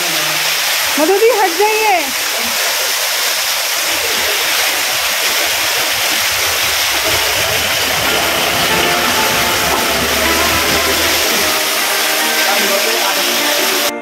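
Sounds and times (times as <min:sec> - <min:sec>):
waterfall splashing onto rocks: 0:00.0 - 0:13.9.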